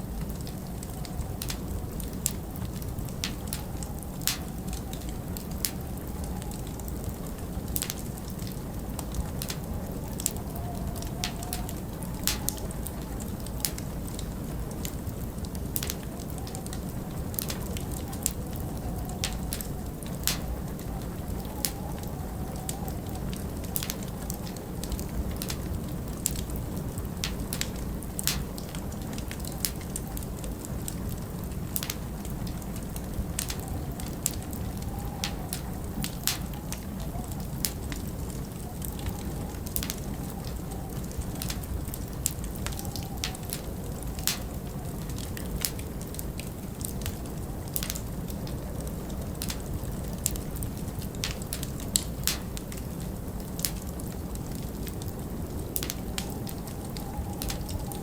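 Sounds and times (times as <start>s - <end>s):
wind rushing and howling: 0.0s - 58.0s
wood fire crackling: 0.0s - 58.0s.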